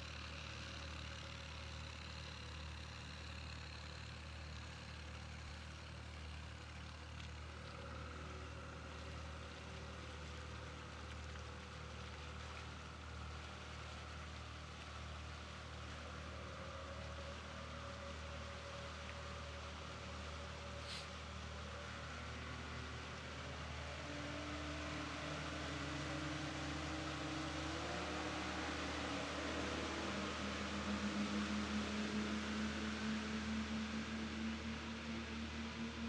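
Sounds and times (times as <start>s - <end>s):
outboard motors running: 0.0s - 36.0s.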